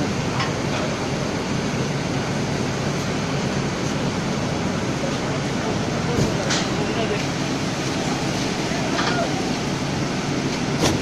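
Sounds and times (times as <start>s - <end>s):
belt conveyor running: 0.0s - 11.0s.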